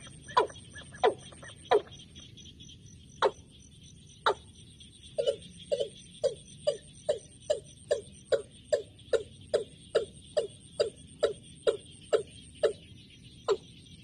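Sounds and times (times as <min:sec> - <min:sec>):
high insect trill: 0:00.0 - 0:14.0.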